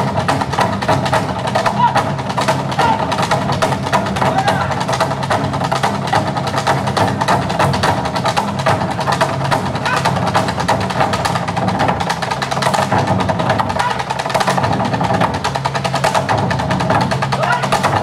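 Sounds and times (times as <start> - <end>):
drum ensemble playing fast rhythm: 0.0 - 18.0.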